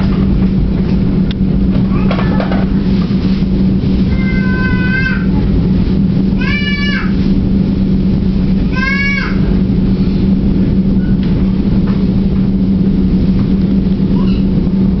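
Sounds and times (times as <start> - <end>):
diesel train hum and rumble: 0.0 - 15.0.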